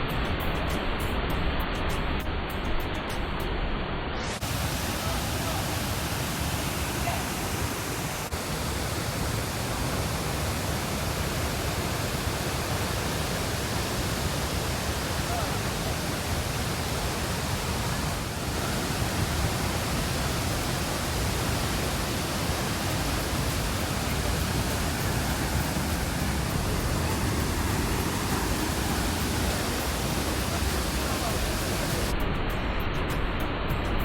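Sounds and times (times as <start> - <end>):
waterfall rushing: 4.2 - 32.1.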